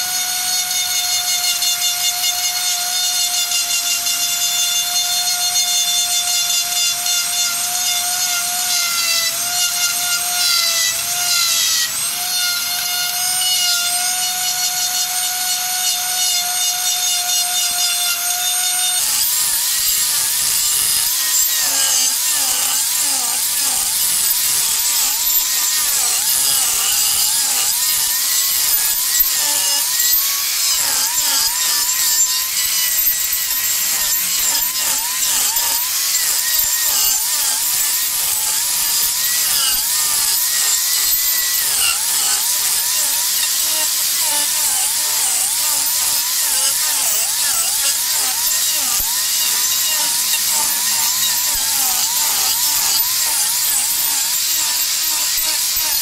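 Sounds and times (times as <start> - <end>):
angle grinder grinding wood: 0.0 - 56.0
rotary carving tool whining: 0.0 - 56.0.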